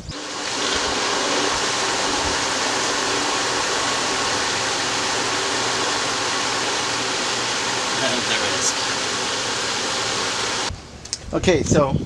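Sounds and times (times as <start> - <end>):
rushing water noise: 0.0 - 10.7
pool pump motor hum: 0.0 - 10.8.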